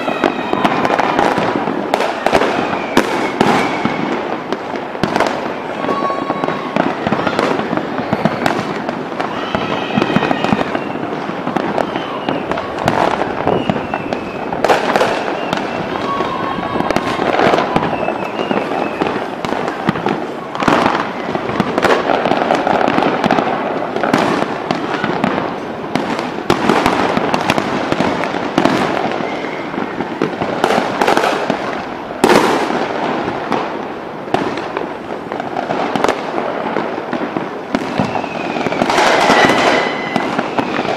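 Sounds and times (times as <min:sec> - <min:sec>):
fireworks bursting: 0:00.0 - 0:40.9
fireworks crackling: 0:00.0 - 0:40.9.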